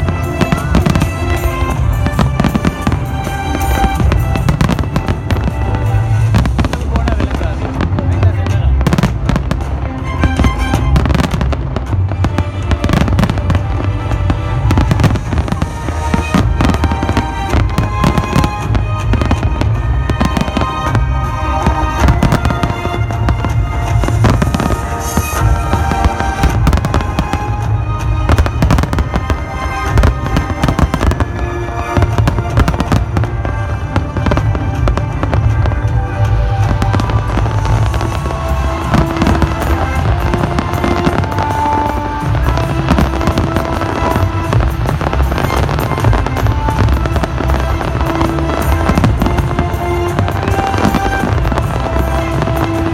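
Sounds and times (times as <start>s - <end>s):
fireworks bursting and crackling: 0.0s - 52.9s
loud music with heavy bass: 0.0s - 52.9s.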